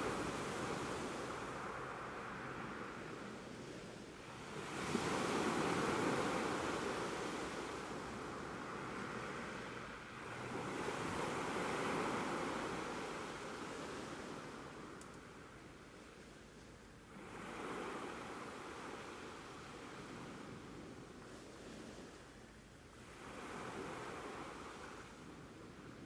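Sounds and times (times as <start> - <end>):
ocean waves on shore: 0.0 - 15.5, 17.1 - 26.0.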